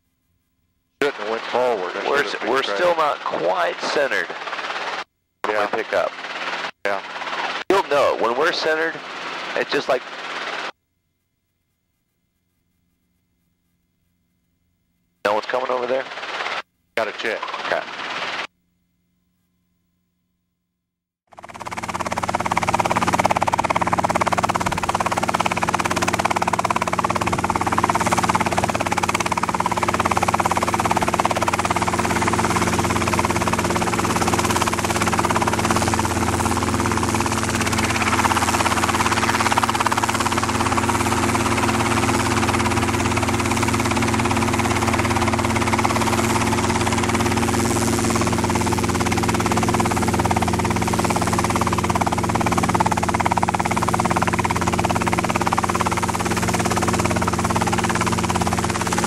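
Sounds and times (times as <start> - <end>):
helicopter hovering: 1.0 - 10.8, 15.3 - 18.5, 21.3 - 59.0.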